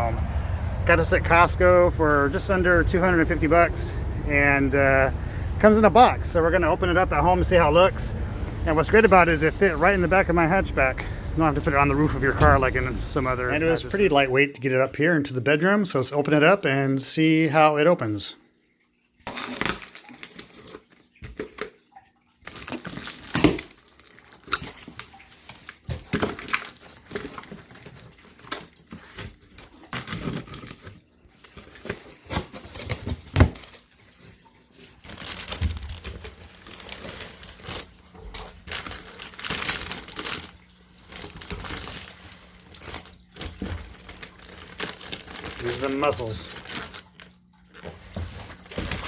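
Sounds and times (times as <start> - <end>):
cardboard and plastic crinkling: 1.2 - 14.4, 19.3 - 21.8, 22.4 - 49.0.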